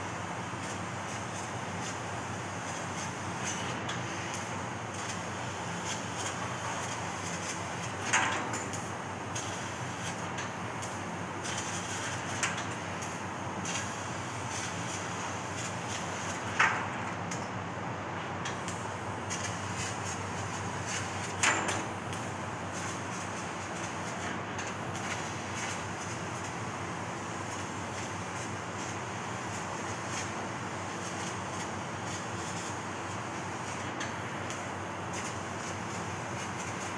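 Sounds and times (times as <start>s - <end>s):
laser cutter hiss and machine noise: 0.0s - 36.9s.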